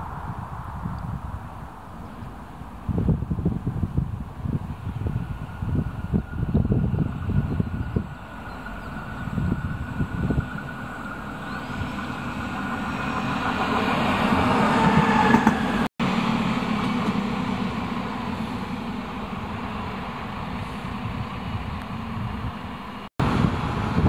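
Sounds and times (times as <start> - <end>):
diesel railcar engine: 0.0 - 24.0
rail noise: 0.0 - 24.0.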